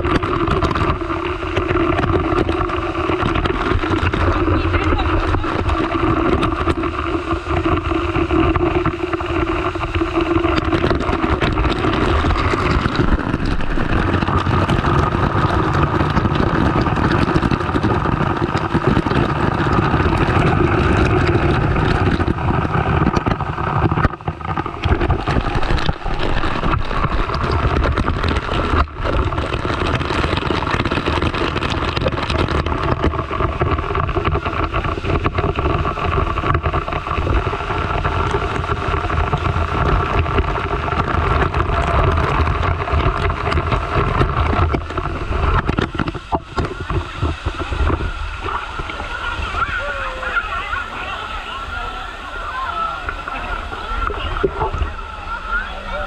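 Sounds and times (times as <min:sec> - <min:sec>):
water pouring onto camera: 0:00.0 - 0:55.6.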